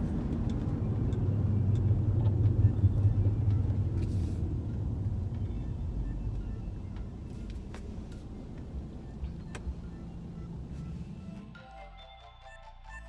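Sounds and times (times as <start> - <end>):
car engine rumbling: 0.0 - 11.6.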